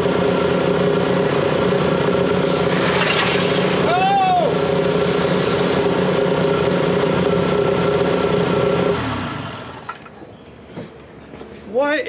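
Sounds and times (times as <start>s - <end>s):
engine winding down: 0.0s - 10.1s
car engine idling: 0.0s - 11.6s.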